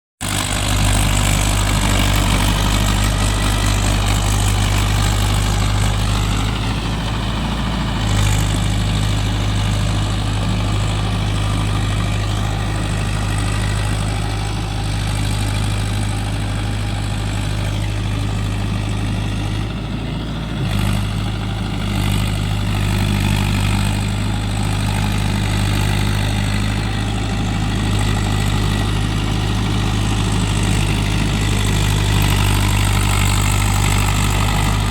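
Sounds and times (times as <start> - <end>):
tractor diesel engine humming: 0.2 - 34.9.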